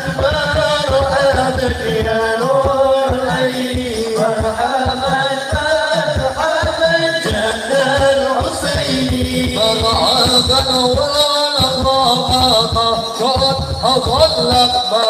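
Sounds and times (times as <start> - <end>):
men singing devotional song: 0.0 - 15.0.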